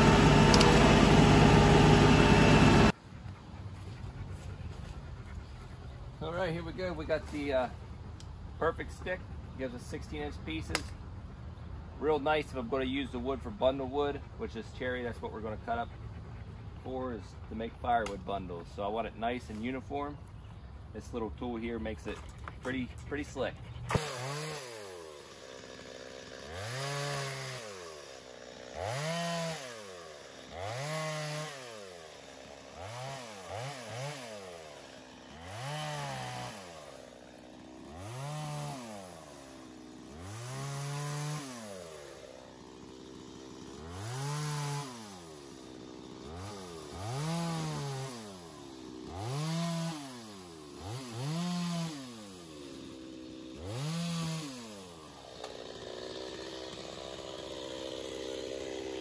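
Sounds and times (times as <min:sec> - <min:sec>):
chainsaw revving and idling: 0:00.0 - 0:03.0, 0:12.0 - 0:20.2, 0:21.0 - 0:59.0.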